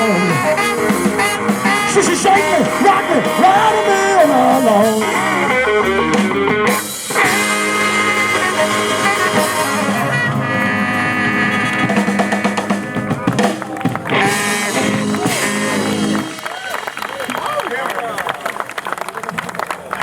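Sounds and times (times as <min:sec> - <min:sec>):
blues-rock band playing: 0:00.0 - 0:17.0.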